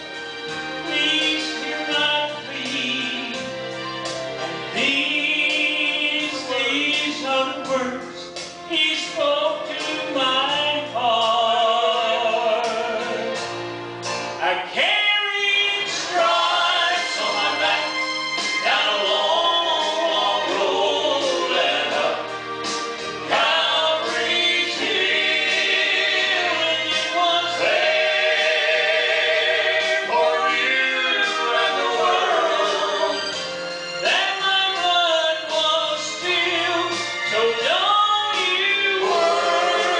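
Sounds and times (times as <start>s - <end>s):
vocal group singing in harmony: 0.0s - 13.8s, 14.4s - 39.9s
instrumental backing with bass line: 0.0s - 39.9s.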